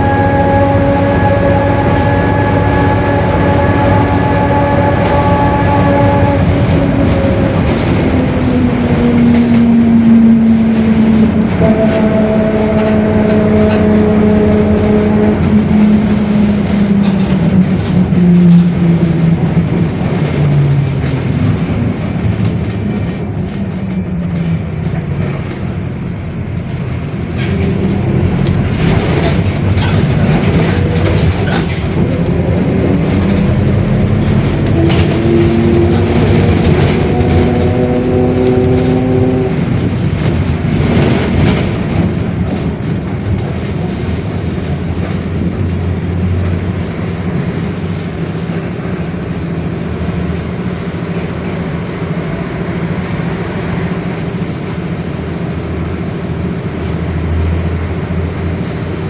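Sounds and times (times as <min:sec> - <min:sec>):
bus diesel engine under load: 0:00.0 - 0:59.0.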